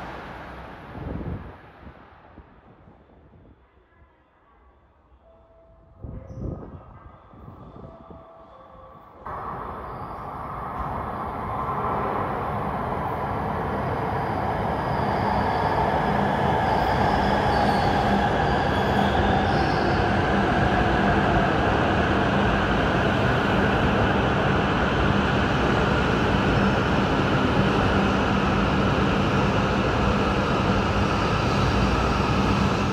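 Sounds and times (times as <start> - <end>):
train rushing noise: 0.0 - 3.4, 7.3 - 32.9.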